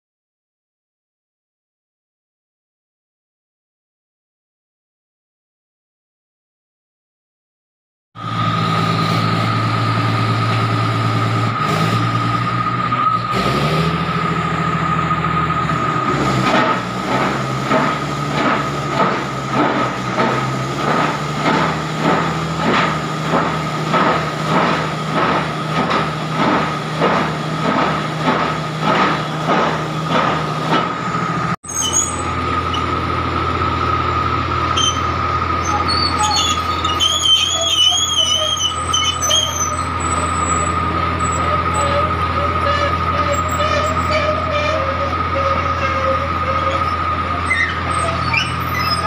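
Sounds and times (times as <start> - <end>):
drilling rig engine whining: 8.2 - 49.0.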